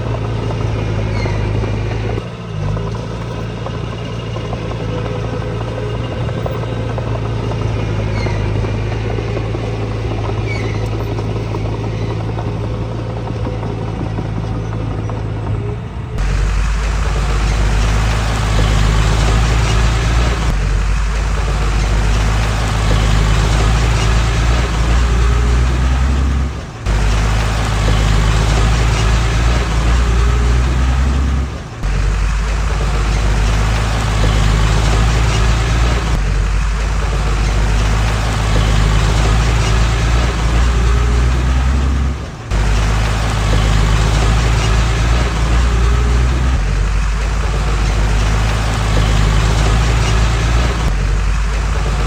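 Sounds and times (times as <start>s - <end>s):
heavy machine engine droning: 0.0s - 52.0s.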